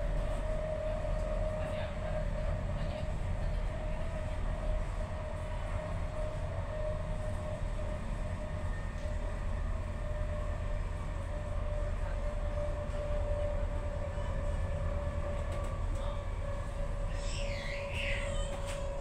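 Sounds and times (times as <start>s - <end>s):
train running with low rumble: 0.0s - 19.0s.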